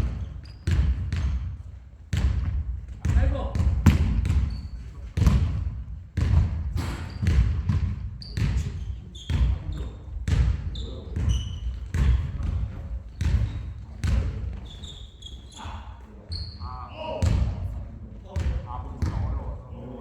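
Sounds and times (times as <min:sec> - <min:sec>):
basketballs bouncing on wood floor: 0:00.0 - 0:15.8, 0:16.6 - 0:19.6.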